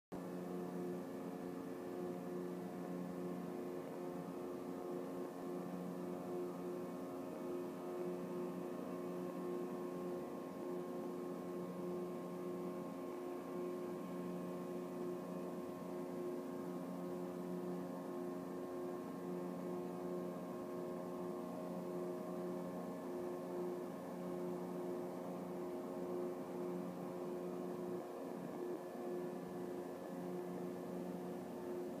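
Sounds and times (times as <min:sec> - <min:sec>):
machinery droning hum: 0:00.2 - 0:32.0.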